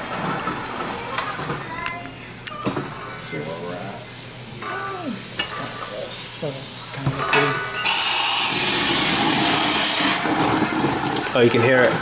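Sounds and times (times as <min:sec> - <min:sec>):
liquid nitrogen hissing: 0:00.8 - 0:12.0.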